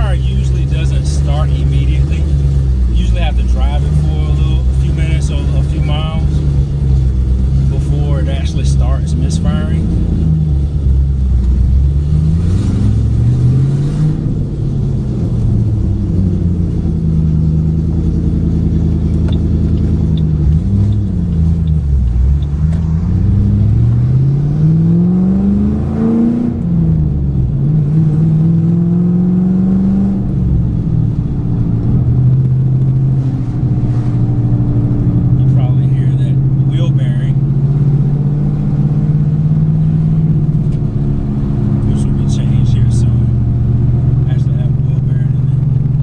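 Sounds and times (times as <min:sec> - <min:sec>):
misfiring car engine: 0:00.0 - 0:46.0.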